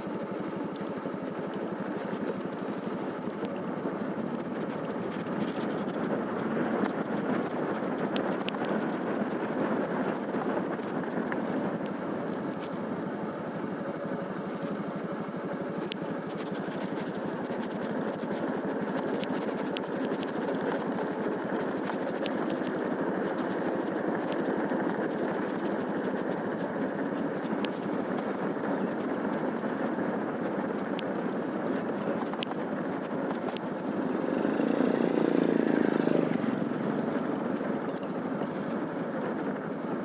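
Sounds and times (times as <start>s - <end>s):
continuous rushing noise: 0.0s - 40.0s
motorcycle engine running: 0.0s - 40.0s.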